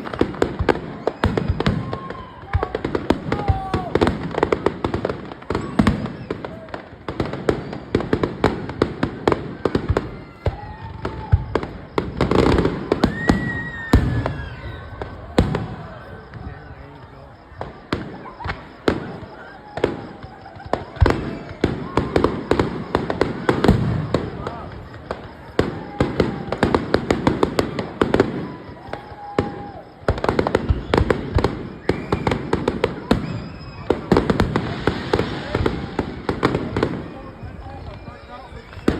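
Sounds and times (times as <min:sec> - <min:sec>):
fireworks bangs and crackling: 0:00.0 - 0:38.9
whistling firework shells: 0:00.0 - 0:38.9.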